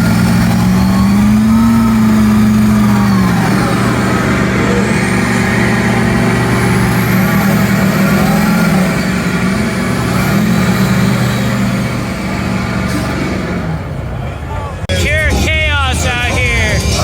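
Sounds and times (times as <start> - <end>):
off-road vehicle engine: 0.0 - 17.0.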